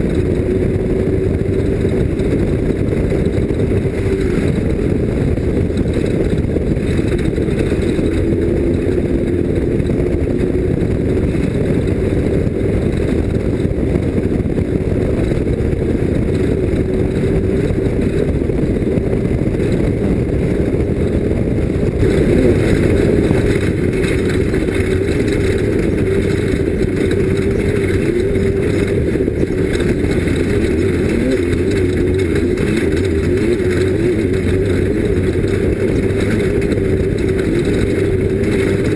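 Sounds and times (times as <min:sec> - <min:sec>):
race vehicle engine running hard: 0:00.0 - 0:38.9.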